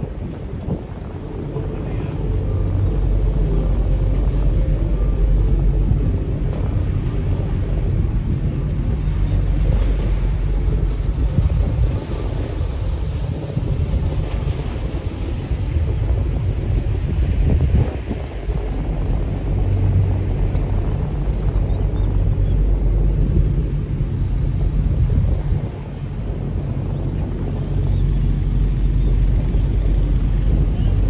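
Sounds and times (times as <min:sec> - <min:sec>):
boat engine drone: 0:00.0 - 0:31.0
water rushing past hull: 0:00.0 - 0:31.0
wind buffeting microphone: 0:00.0 - 0:31.0.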